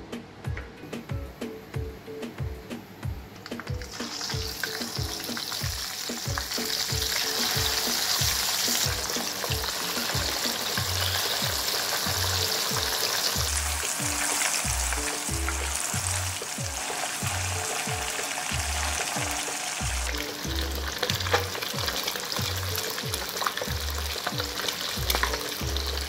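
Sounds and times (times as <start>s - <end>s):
fish sizzling in hot oil: 3.8s - 26.0s.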